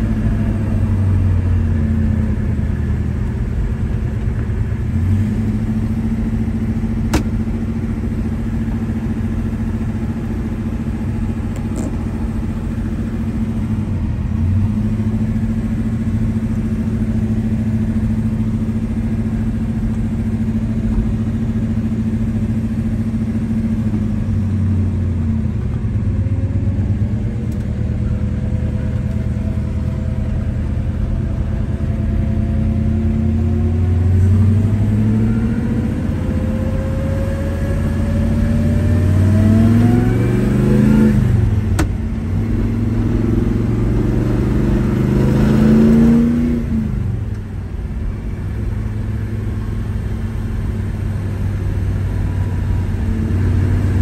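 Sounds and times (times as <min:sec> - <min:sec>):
car engine rumbling from cabin: 0:00.0 - 0:54.0.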